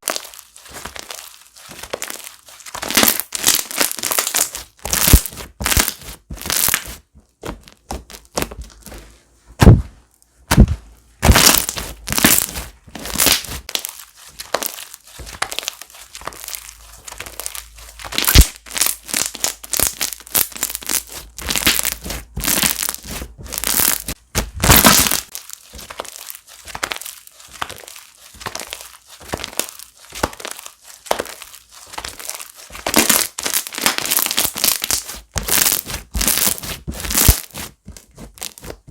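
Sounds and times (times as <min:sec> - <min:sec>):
slime squished by hand: 0:00.0 - 0:09.0, 0:09.6 - 0:38.9
sticky crackling and popping: 0:00.0 - 0:09.0, 0:10.5 - 0:38.9.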